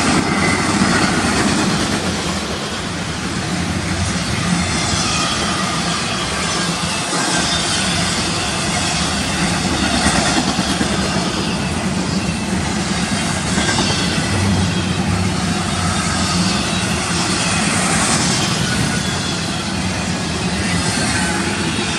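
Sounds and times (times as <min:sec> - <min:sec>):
freight train rumbling past: 0:00.0 - 0:21.9.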